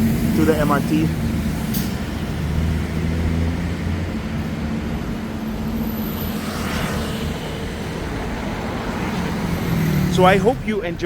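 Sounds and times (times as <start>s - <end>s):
traffic engine rumble: 0.0s - 11.0s.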